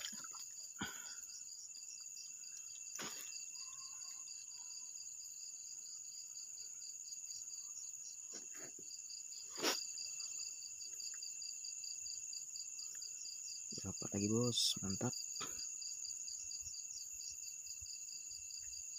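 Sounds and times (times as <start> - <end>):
crickets and insects chirring: 0.0 - 18.9.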